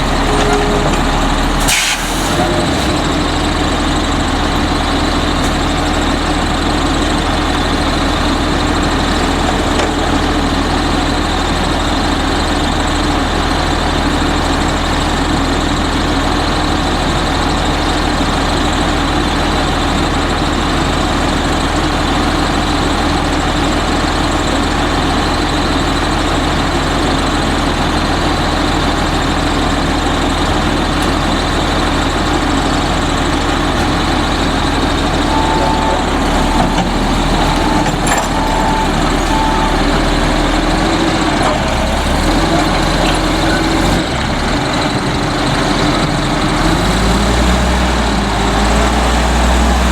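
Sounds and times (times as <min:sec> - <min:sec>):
garbage truck engine idling: 0:00.0 - 0:49.9.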